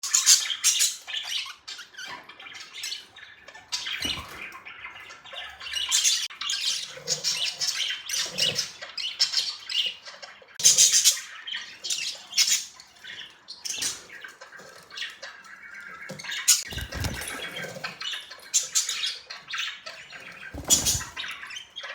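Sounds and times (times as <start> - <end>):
budgerigars chirping: 0.0 - 21.9.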